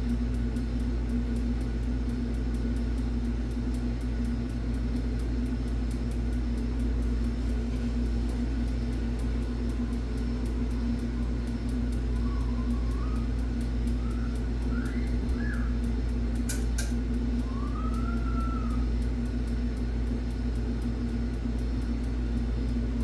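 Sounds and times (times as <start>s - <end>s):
gas furnace humming: 0.0s - 23.0s.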